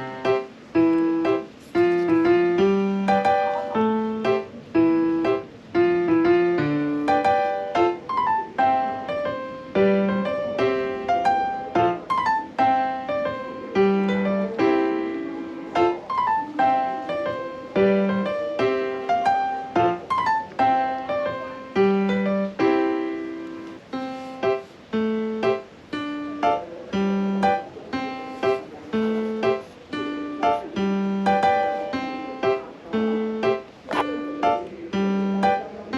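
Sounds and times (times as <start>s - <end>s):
background piano music: 0.0s - 35.9s.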